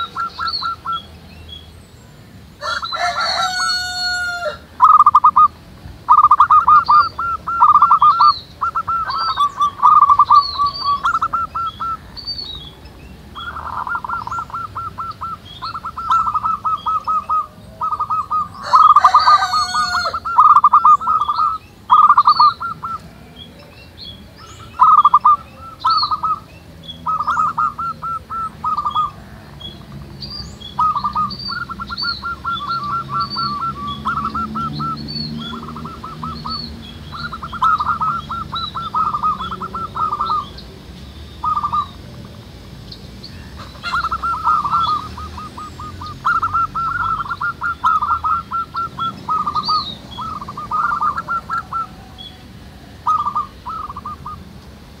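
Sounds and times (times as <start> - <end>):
doves cooing: 0.0 - 1.3, 2.6 - 40.8, 41.4 - 42.5, 43.3 - 54.6
loud bird call: 0.0 - 42.1, 43.2 - 54.5
small birds chirping: 0.0 - 55.0.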